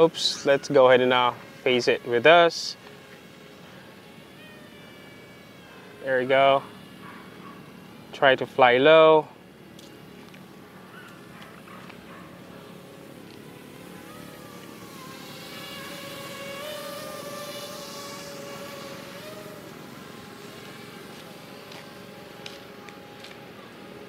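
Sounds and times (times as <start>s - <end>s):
drone propellers whining: 0.0s - 24.0s.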